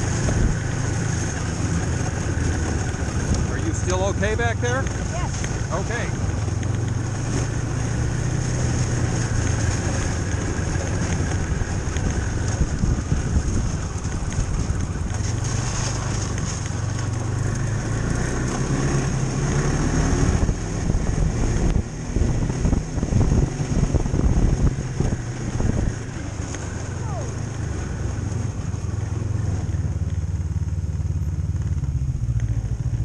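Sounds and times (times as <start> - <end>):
snowmobile engine running: 0.0 - 33.0.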